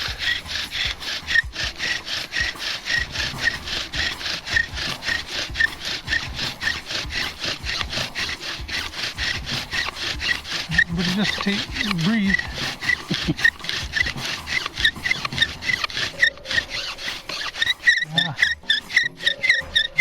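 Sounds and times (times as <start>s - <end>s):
bow drill spindle rasping: 0.0s - 20.0s
spindle squeaking: 0.0s - 20.0s.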